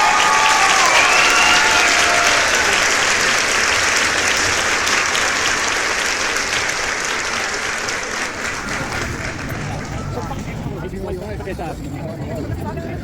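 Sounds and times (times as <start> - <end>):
crowd applauding: 0.0 - 11.9.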